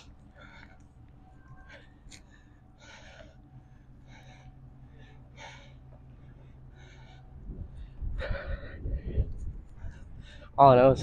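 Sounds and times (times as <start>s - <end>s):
low rumble: 0.0s - 10.6s
man breathing heavily: 0.0s - 10.6s.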